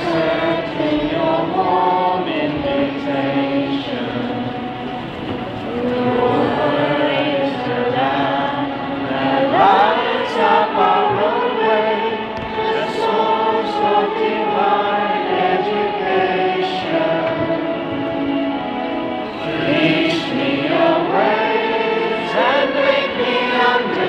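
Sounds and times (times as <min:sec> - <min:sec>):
stadium crowd singing a hymn: 0:00.0 - 0:24.0.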